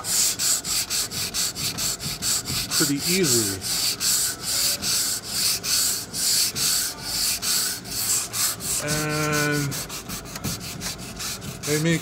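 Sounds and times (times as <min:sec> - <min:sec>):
sandpaper rubbing on wood: 0:00.0 - 0:12.0.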